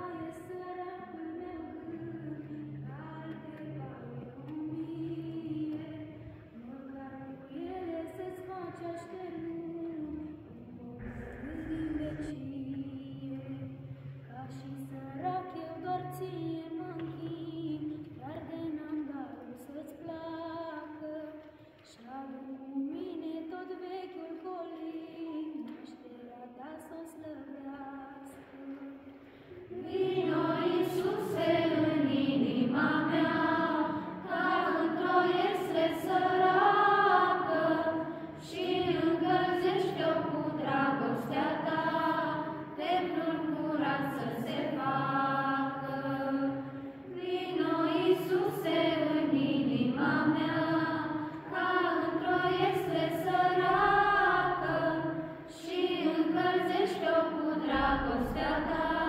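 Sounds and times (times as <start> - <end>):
women and girls singing unaccompanied: 0.0 - 59.0.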